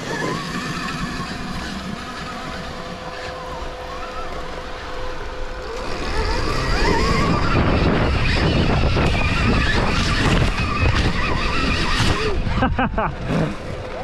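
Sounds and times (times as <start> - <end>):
electric motor whining: 0.0 - 14.0
low rumble of tyres and wind: 0.0 - 14.0.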